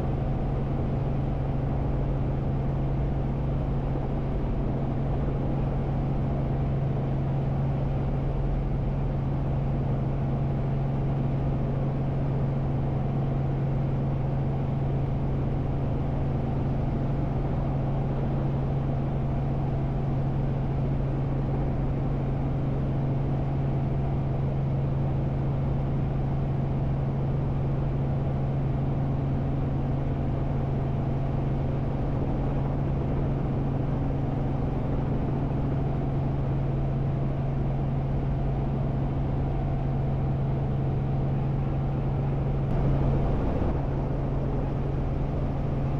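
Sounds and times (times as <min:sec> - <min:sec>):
helicopter engine and rotors droning: 0:00.0 - 0:45.9.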